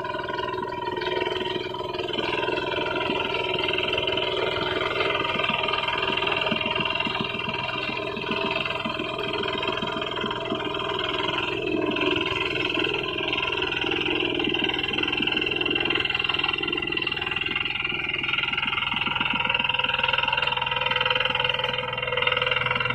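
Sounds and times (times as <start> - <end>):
diesel engine running under load: 0.0 - 22.9.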